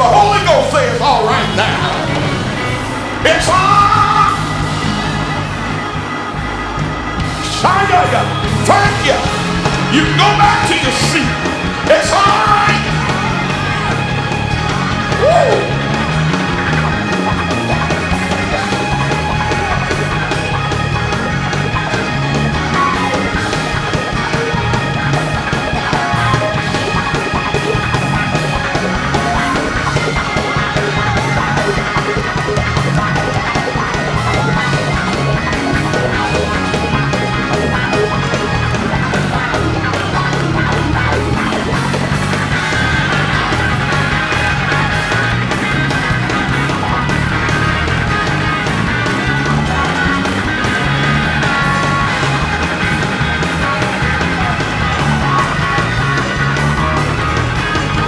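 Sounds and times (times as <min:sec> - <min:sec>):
church band playing: 0:00.0 - 0:58.0.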